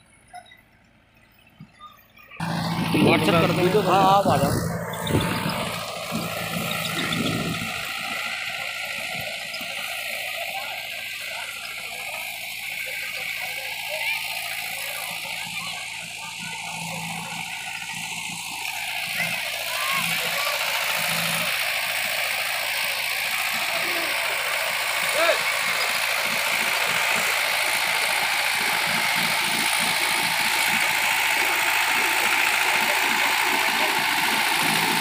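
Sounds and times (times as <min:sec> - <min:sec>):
tractor diesel engine running: 0:00.0 - 0:35.0
rotary tiller churning soil: 0:02.4 - 0:35.0.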